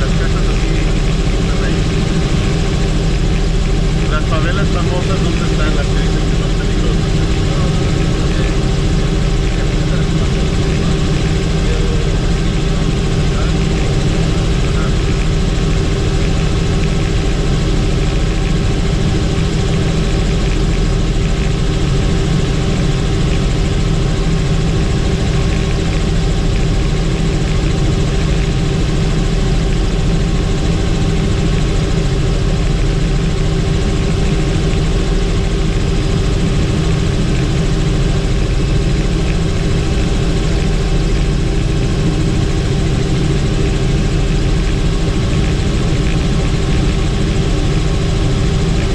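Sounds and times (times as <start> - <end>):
helicopter turbine and rotors drone: 0.0 - 48.9
steady tonal hum: 0.0 - 48.9.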